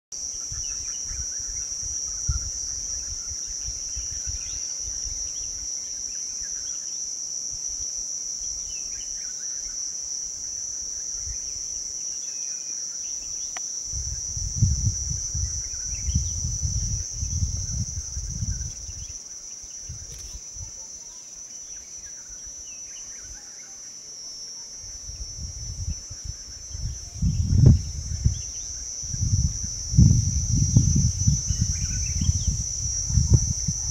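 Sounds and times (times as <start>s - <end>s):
high-pitched insect drone: 0.2s - 33.9s.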